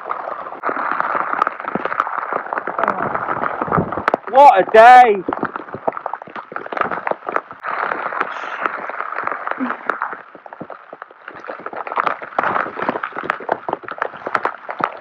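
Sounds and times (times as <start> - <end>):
rain tapping on tent fabric: 0.0 - 15.0
waterproof clothing rustling: 0.0 - 15.0.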